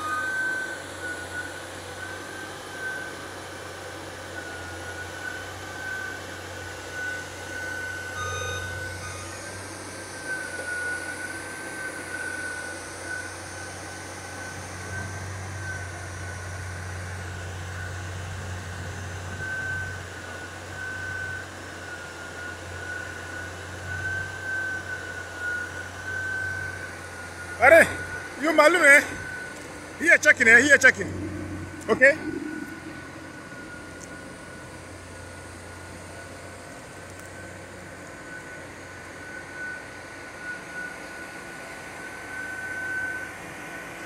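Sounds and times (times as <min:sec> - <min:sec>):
drilling rig engine hum: 0:00.0 - 0:44.0
high-pitched whine: 0:00.0 - 0:44.0.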